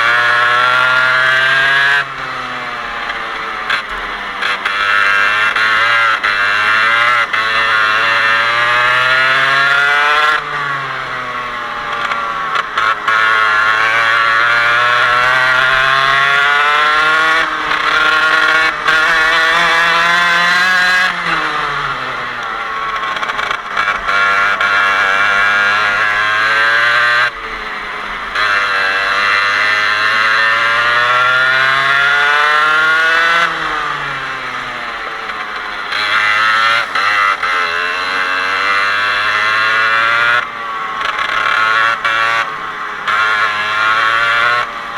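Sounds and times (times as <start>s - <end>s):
kart engine revving: 0.0s - 44.9s.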